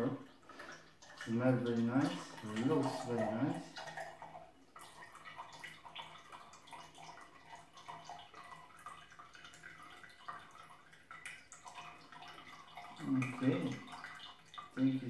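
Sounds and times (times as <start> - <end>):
liquid dripping into glass: 0.0 - 15.0.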